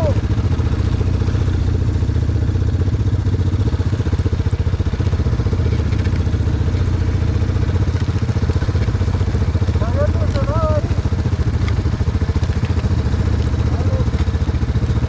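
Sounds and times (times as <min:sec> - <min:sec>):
quad engines running at low speed: 0:00.0 - 0:15.0.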